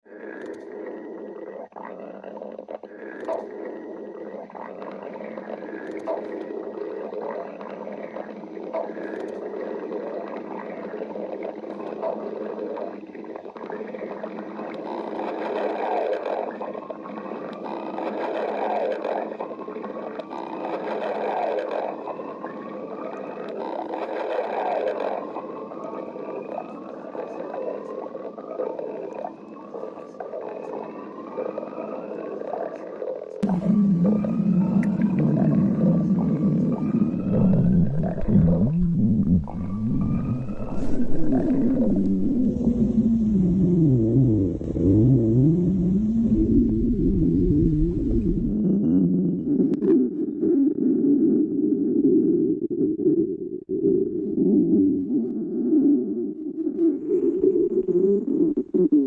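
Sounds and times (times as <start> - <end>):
stomach growling: 0.0 - 59.0.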